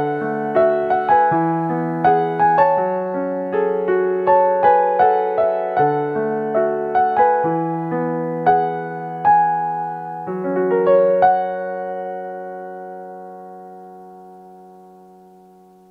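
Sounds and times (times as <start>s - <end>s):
slow piano ballad: 0.0s - 15.9s.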